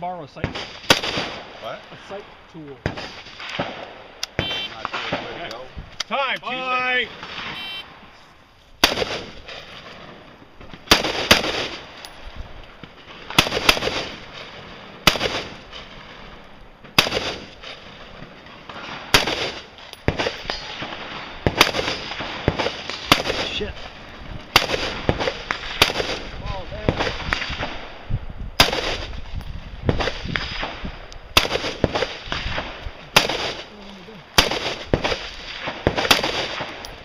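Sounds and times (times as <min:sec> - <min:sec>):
rifle shots with echo: 0:00.4 - 0:01.8, 0:02.8 - 0:05.7, 0:08.8 - 0:12.1, 0:12.8 - 0:28.0, 0:28.6 - 0:29.2, 0:29.8 - 0:33.7, 0:34.4 - 0:37.0.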